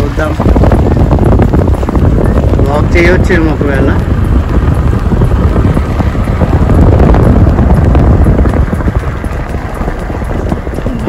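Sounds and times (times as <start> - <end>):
vehicle road noise: 0.0 - 11.0
wind buffeting microphone: 0.0 - 11.0.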